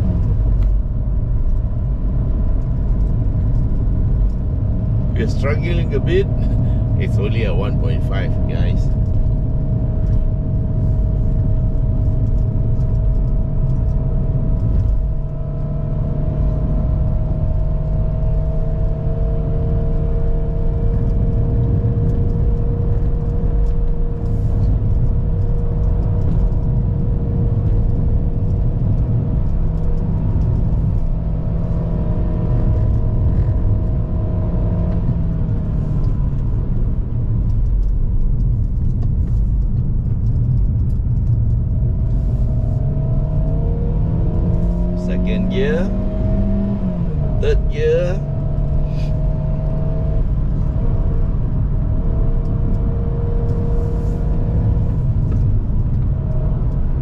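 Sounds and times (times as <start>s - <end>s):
car engine pulling uphill: 0.0s - 57.0s.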